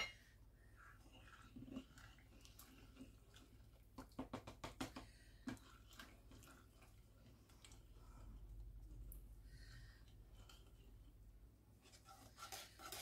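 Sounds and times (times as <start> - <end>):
spoon stirring thick mixture: 0.0 - 13.0.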